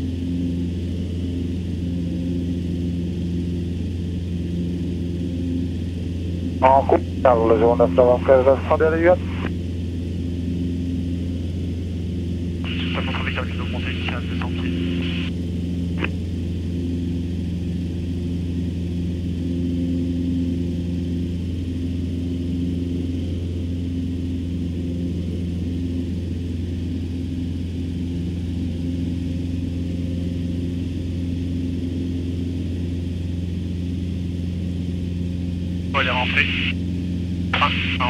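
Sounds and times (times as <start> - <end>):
light aircraft engine droning: 0.0 - 38.0.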